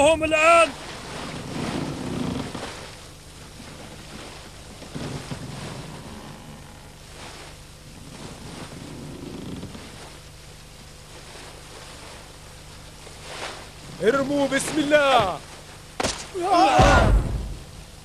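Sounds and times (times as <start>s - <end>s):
steady low hum: 0.0s - 18.0s
wind: 0.0s - 18.0s.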